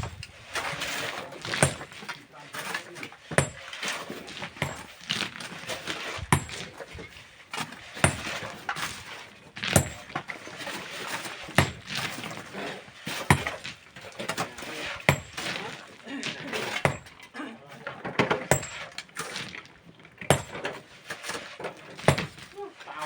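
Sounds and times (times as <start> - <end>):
gritty scraping: 0.0 - 23.0.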